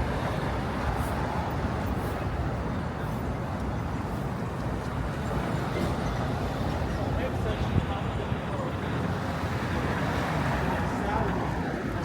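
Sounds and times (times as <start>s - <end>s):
passing traffic noise: 0.0s - 12.0s.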